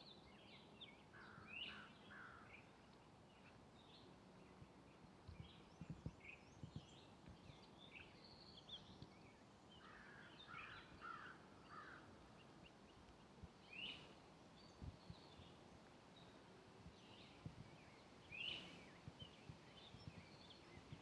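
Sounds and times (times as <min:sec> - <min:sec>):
outdoor background hiss: 0:00.0 - 0:21.0
songbirds chirping: 0:00.0 - 0:21.0.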